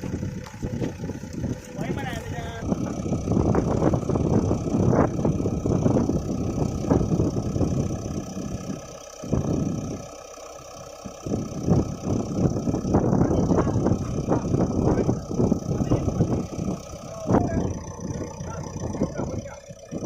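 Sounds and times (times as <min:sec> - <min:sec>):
backhoe engine chugging: 0:00.0 - 0:20.0.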